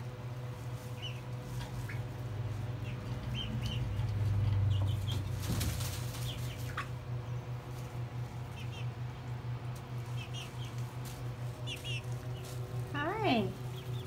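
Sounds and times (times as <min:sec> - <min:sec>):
steady low hum: 0:00.0 - 0:14.0
chicks peeping: 0:00.3 - 0:14.0.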